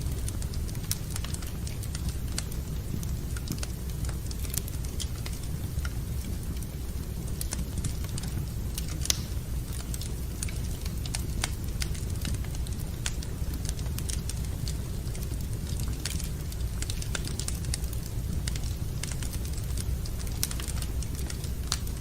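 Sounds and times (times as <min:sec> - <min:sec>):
low fire rumble: 0:00.0 - 0:22.0
wood fire crackling: 0:00.0 - 0:22.0.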